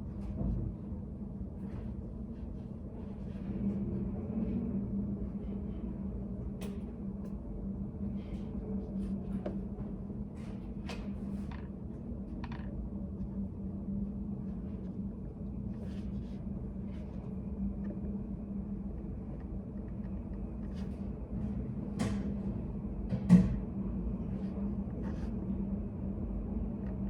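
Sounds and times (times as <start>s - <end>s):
steady low room hum: 0.0s - 27.0s.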